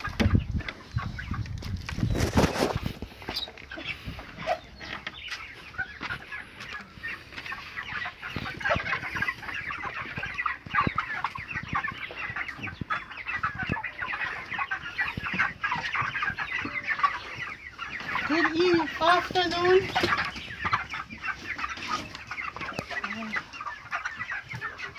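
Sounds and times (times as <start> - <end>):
chicks peeping and clucking: 0.0 - 24.9.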